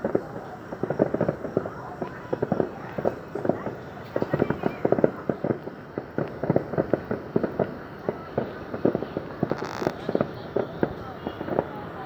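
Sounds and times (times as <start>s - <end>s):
fireworks banging: 0.0s - 12.0s
fireworks hiss: 0.0s - 12.0s.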